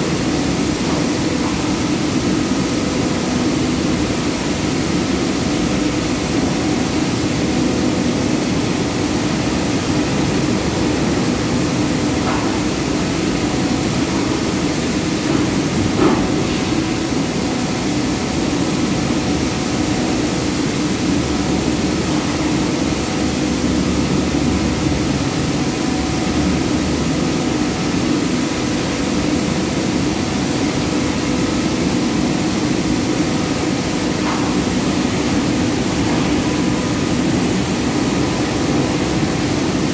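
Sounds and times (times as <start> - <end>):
mill machinery droning: 0.0 - 39.9.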